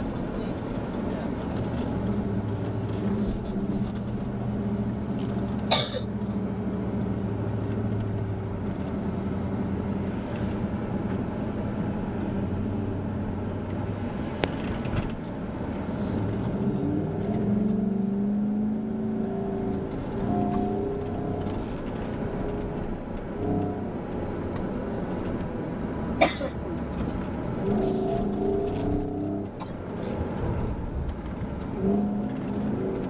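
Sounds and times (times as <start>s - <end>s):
vehicle engine under load: 0.0s - 33.0s.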